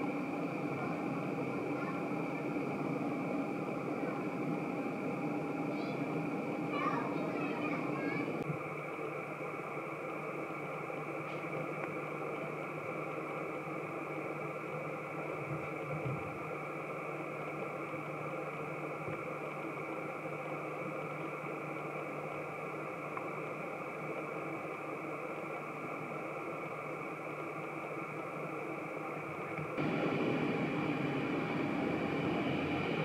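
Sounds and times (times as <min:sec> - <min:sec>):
distant aircraft engines droning: 0:00.0 - 0:33.0.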